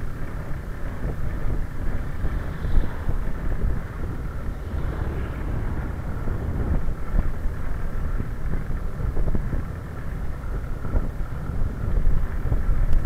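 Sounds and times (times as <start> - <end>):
road rumble: 0.0 - 13.0
wind rushing over microphone: 0.0 - 13.0.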